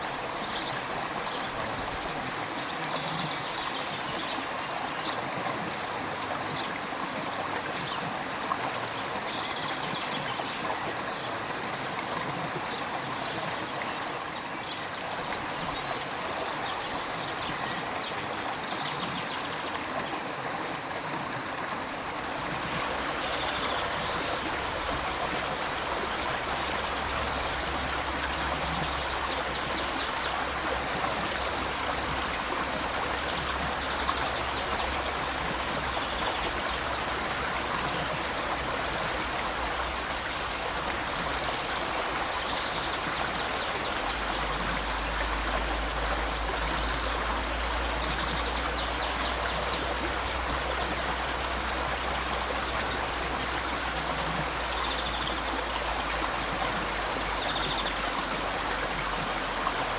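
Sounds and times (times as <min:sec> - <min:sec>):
river water rushing: 0:10.5 - 0:59.9.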